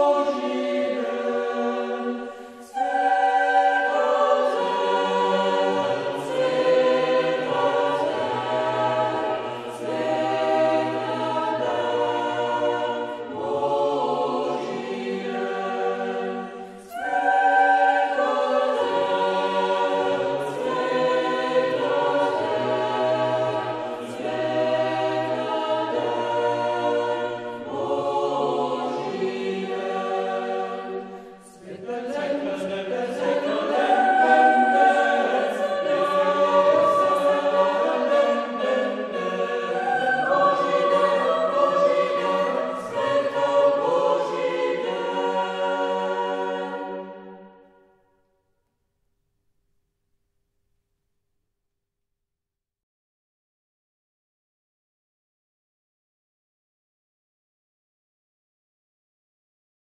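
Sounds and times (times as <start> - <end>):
choir singing slow chords: 0.0 - 48.6.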